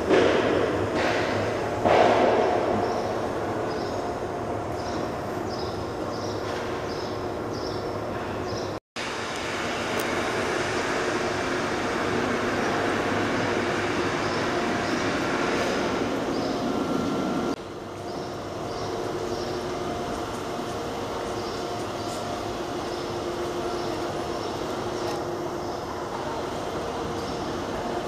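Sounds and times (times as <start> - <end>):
train rumble and hiss: 0.0 - 28.0.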